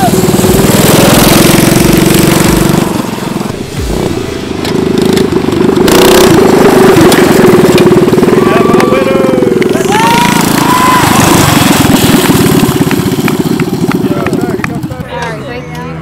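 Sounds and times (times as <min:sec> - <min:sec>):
minibike engines running hard: 0:00.0 - 0:16.0.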